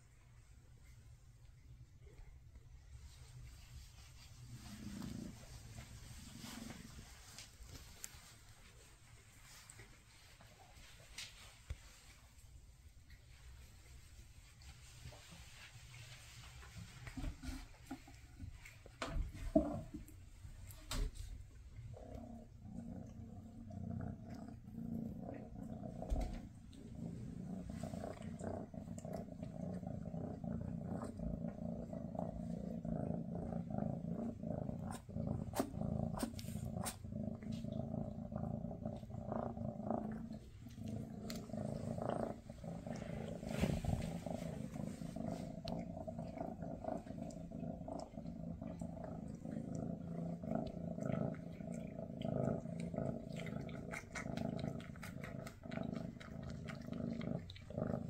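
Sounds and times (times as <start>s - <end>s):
cat licking and grooming fur: 0.0s - 58.0s
cats purring: 0.0s - 58.0s.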